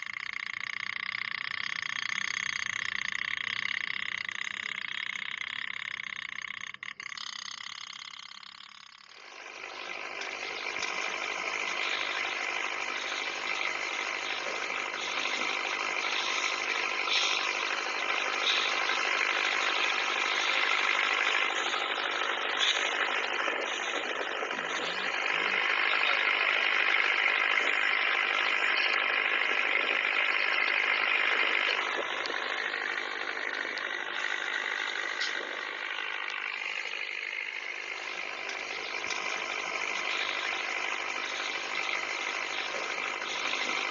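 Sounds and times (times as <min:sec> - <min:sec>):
toy steam boats putt-putt rattle: 0:00.0 - 0:43.9.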